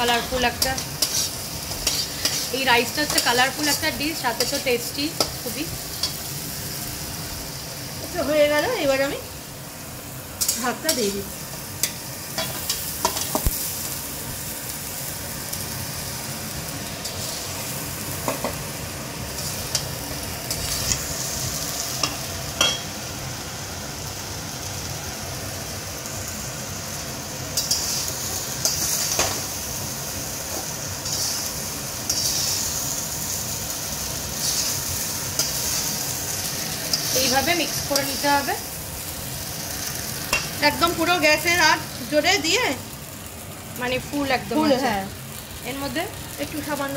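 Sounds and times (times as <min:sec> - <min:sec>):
vegetables and rice sizzling: 0:00.0 - 0:46.9.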